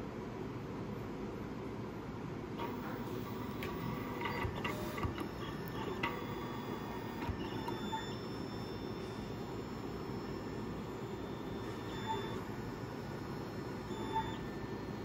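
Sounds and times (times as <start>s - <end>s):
thin steady whine: 2.5s - 15.0s
cutting plotter motors whirring: 2.6s - 15.0s.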